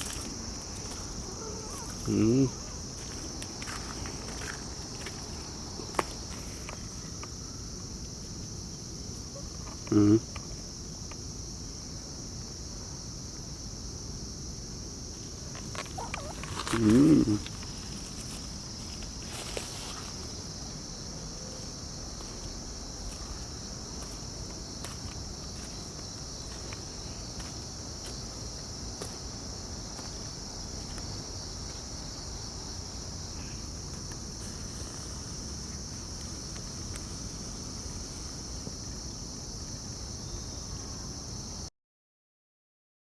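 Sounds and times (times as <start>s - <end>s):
crickets chirping: 0.0s - 41.7s.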